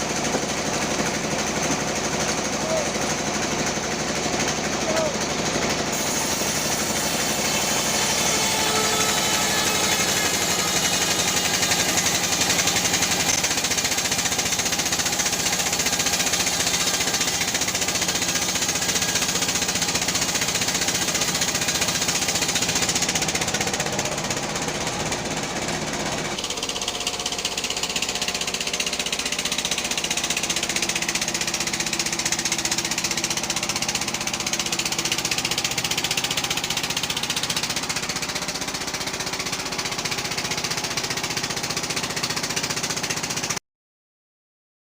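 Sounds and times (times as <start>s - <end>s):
band saw cutting wood: 0.0s - 43.6s.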